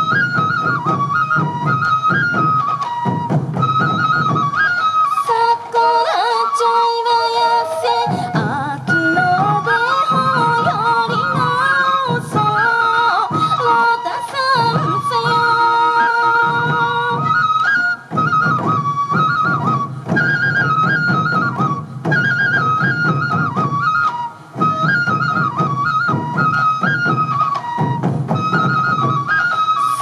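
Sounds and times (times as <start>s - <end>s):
taiko drums beating: 0.0s - 5.9s, 7.5s - 30.0s
bamboo flute melody: 0.0s - 30.0s.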